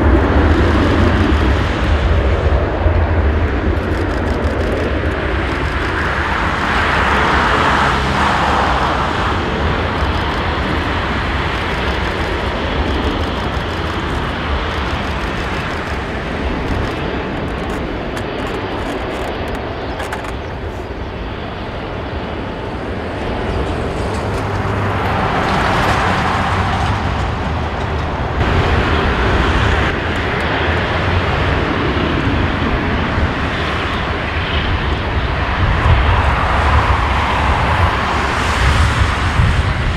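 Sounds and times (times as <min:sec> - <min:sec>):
jet engines rumbling and hissing: 0:00.0 - 0:39.9.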